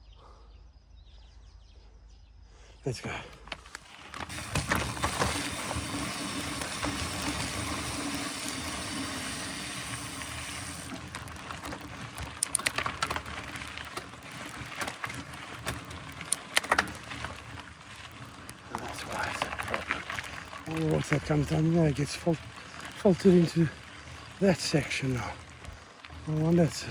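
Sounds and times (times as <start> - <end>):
bike rolling and wind noise: 3.1 - 26.9
bike clicks and knocks: 3.3 - 26.9.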